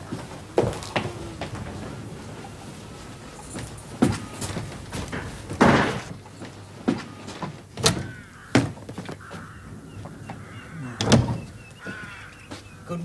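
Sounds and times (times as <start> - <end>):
door opening: 0.0 - 12.5
footsteps on wooden stairs: 0.0 - 12.8.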